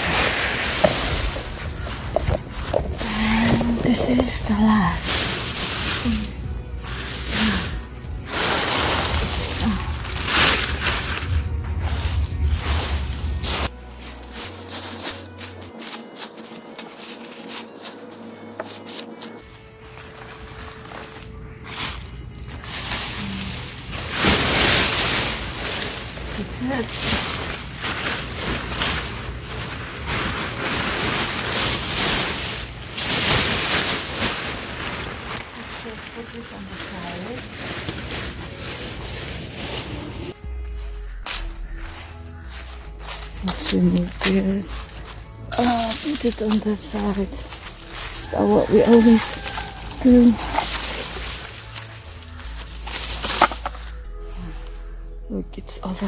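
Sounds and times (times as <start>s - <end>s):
background music: 0.0s - 56.0s
leaves and plastic bag rustling: 0.0s - 56.0s.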